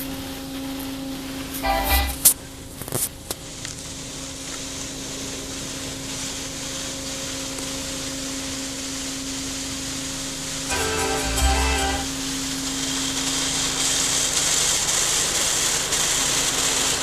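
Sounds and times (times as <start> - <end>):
steady hiss: 1.0 - 17.0.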